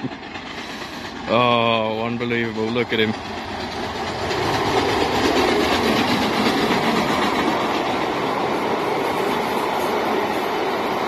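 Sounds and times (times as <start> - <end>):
steam train passing: 0.0 - 11.0
wheels on rail: 0.0 - 11.0.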